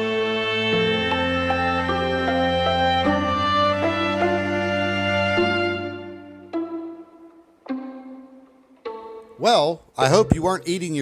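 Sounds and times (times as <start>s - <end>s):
slow sad instrumental music: 0.0s - 11.0s.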